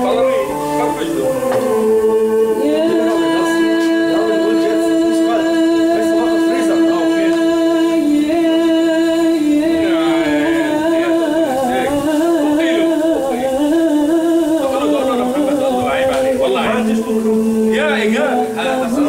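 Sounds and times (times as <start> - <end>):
melody of long held notes: 0.0 - 19.0
person singing: 0.0 - 19.0.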